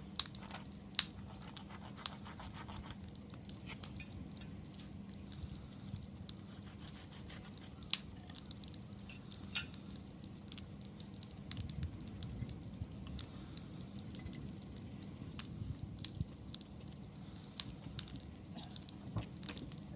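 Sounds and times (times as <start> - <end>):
campfire crackling: 0.0 - 19.9
low rumble of burning: 0.0 - 19.9.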